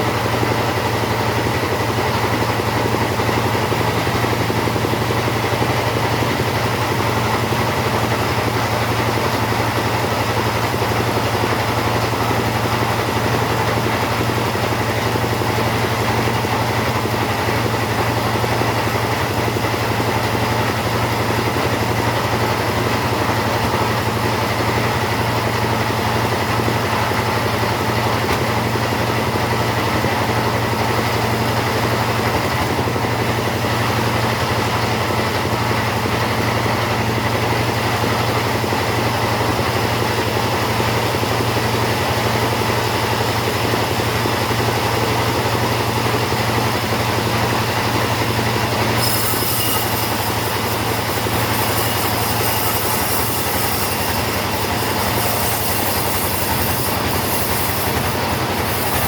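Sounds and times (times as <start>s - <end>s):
chainsaw sawing a log: 0.0s - 59.0s.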